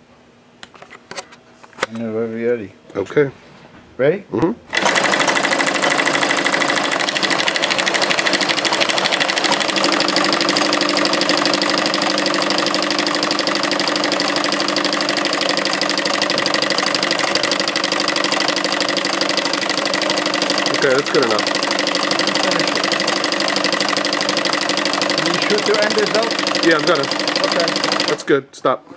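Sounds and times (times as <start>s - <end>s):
sewing machine stitching: 4.7s - 28.3s.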